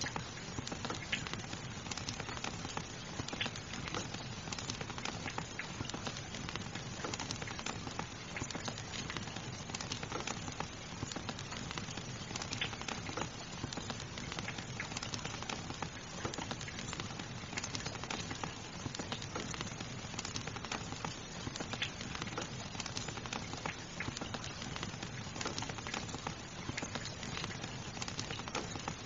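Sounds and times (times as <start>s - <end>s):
fireplace fire crackling: 0.0s - 29.0s
rain hissing: 0.0s - 29.0s.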